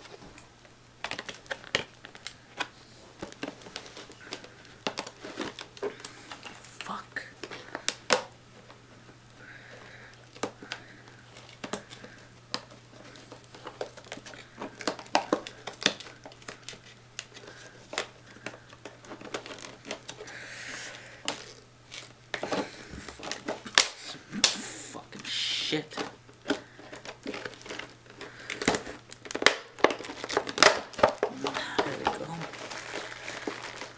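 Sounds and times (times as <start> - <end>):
plastic packaging cracking: 0.0 - 33.9.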